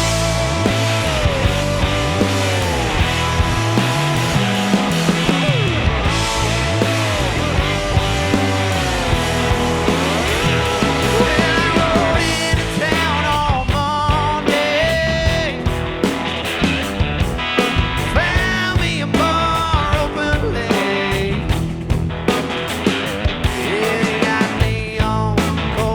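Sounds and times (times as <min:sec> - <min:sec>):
blues-rock band playing: 0:00.0 - 0:25.9.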